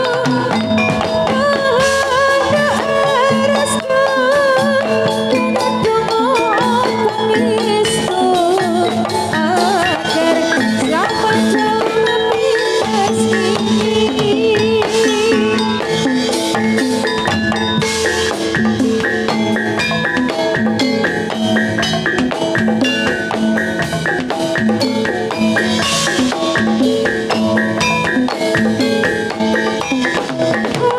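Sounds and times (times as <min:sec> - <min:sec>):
drum strokes: 0:00.0 - 0:30.9
wavering melodic line: 0:00.0 - 0:30.9.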